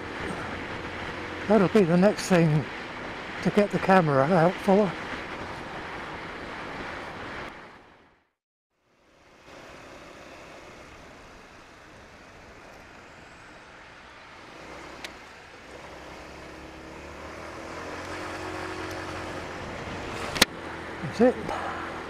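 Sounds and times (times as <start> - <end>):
scooter engine hum: 0.0 - 7.4, 9.0 - 22.0
wind and road rush: 0.0 - 22.0.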